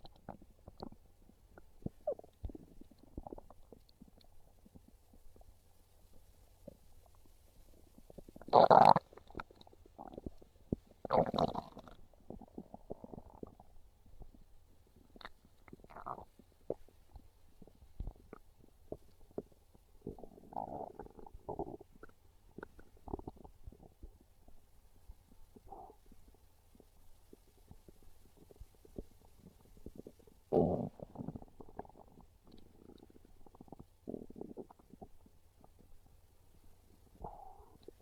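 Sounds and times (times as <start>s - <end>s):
stomach growling and gurgling: 0.0s - 38.0s.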